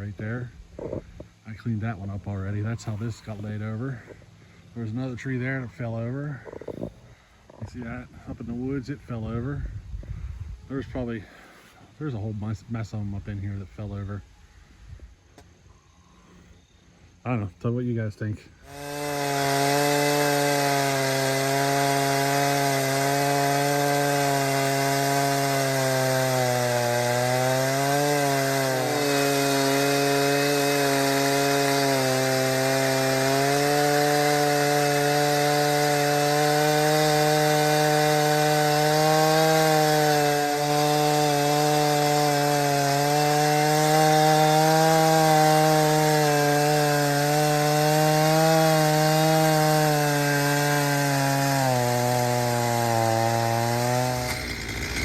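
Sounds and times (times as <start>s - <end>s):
chainsaw cutting wood: 0.0s - 9.5s, 18.6s - 55.0s.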